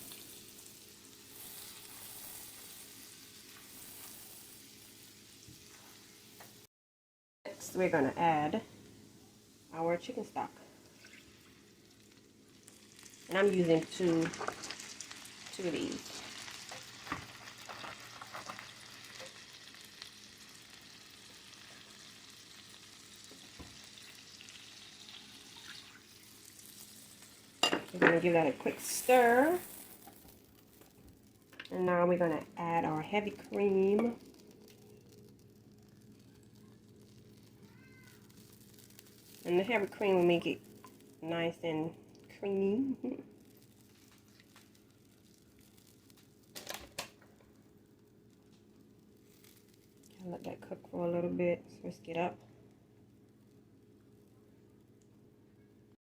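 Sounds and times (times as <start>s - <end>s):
garlic sizzling in butter: 0.0s - 6.7s, 7.5s - 50.8s.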